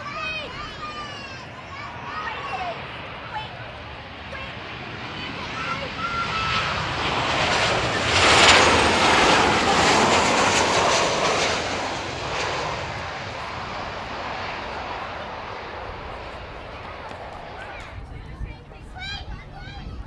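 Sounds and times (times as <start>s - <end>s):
jet airliner passing overhead: 0.0s - 20.0s.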